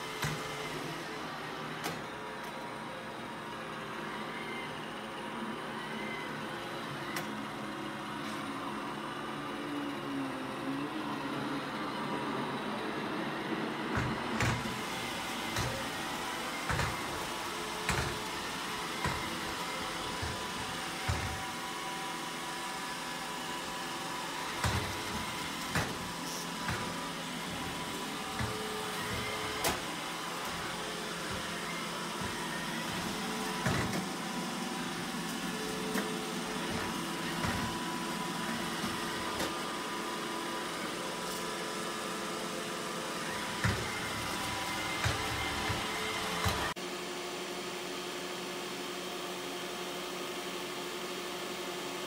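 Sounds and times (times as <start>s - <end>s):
robot vacuum whirring: 0.0s - 46.8s.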